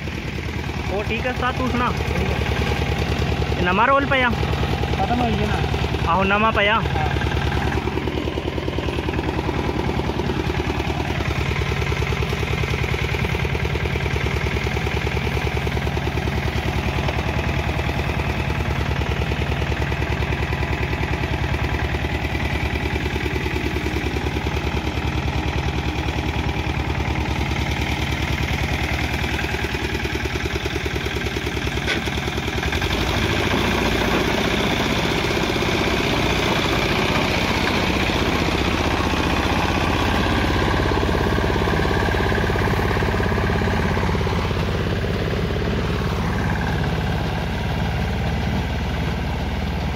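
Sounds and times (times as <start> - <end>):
engine running under load: 0.0 - 49.9.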